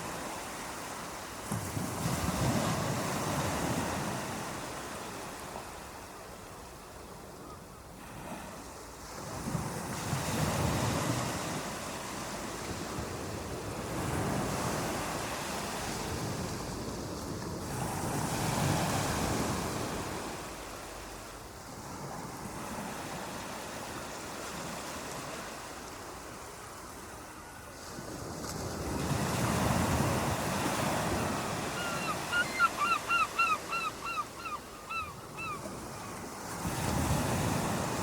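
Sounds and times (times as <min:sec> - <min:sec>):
ocean waves washing onto beach: 0:00.0 - 0:06.1, 0:08.0 - 0:38.0.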